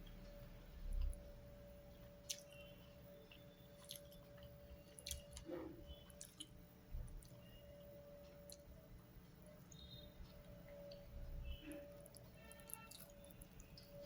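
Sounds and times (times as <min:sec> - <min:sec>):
person chewing food: 0:00.9 - 0:08.8, 0:09.5 - 0:14.0.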